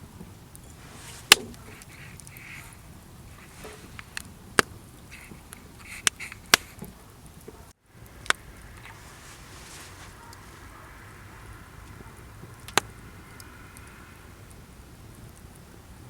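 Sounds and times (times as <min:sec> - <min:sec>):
campfire crackling and popping: 0:00.0 - 0:16.0
steady low background noise: 0:00.0 - 0:16.0.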